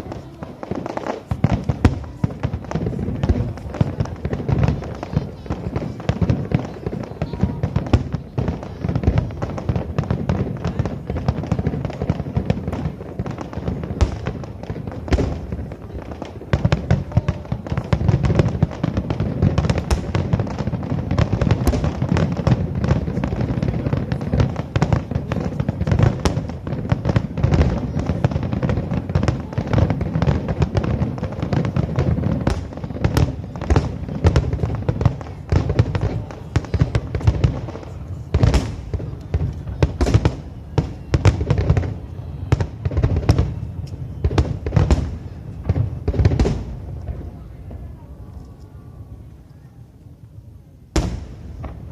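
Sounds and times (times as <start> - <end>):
fireworks booms and cracks: 0.0 - 49.2, 50.9 - 51.9.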